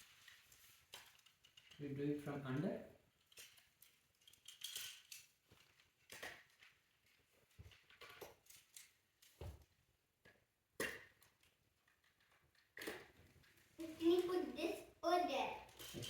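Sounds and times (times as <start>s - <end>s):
toy pieces clicking and knocking: 0.3s - 1.9s, 3.0s - 9.4s, 10.2s - 16.0s.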